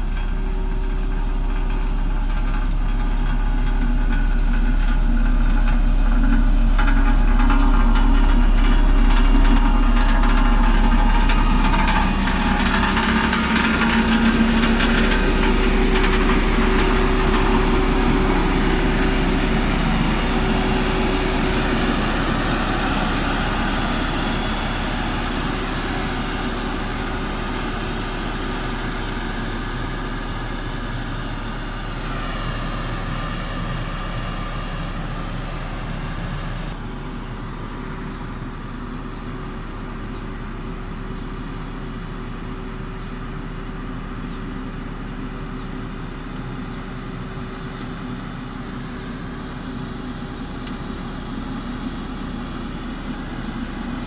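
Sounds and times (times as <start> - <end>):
backhoe diesel engine running: 0.0 - 54.0.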